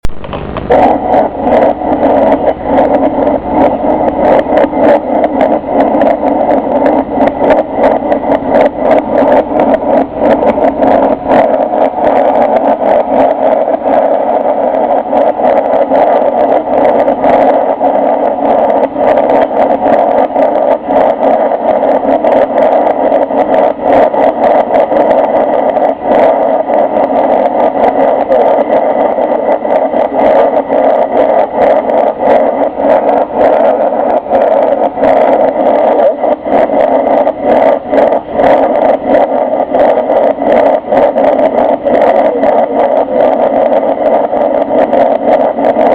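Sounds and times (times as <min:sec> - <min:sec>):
airliner cabin engine noise: 0:00.0 - 0:45.9.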